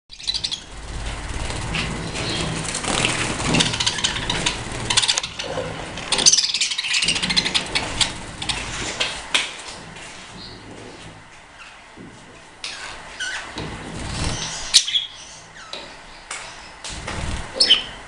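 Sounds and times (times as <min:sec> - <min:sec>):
budgies chattering and chirping: 0:00.1 - 0:09.3, 0:12.6 - 0:18.0
steady low hum: 0:00.1 - 0:18.0.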